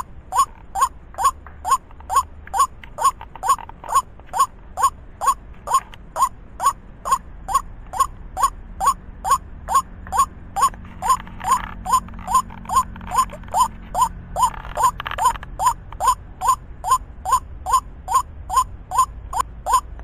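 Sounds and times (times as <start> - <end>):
waterhen croaking call: 0.0 - 20.0.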